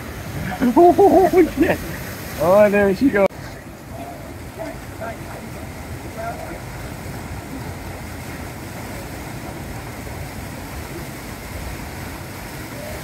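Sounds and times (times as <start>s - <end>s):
whitewater rushing and churning: 0.0s - 13.0s.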